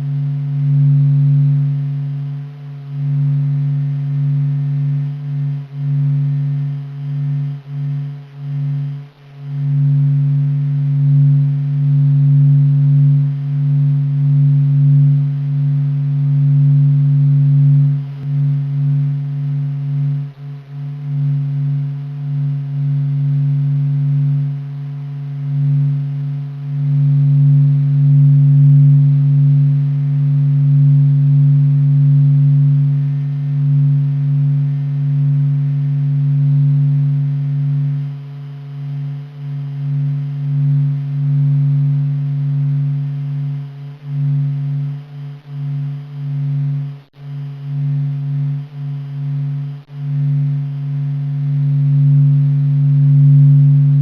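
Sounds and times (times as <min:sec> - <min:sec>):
deep steady hum with overtones: 0:00.0 - 0:54.0.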